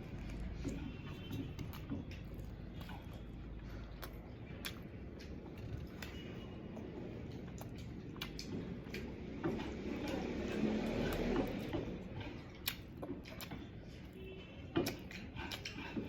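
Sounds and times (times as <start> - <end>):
wet chewing and mouth smacks: 0.0 - 16.0.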